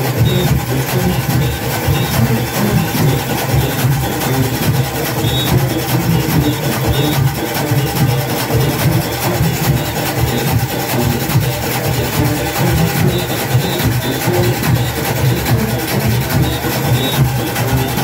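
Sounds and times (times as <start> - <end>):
drums pounding: 0.0 - 18.0
high whistle or horn notes: 0.0 - 18.0
rapid clatter of cowbells: 0.0 - 18.0.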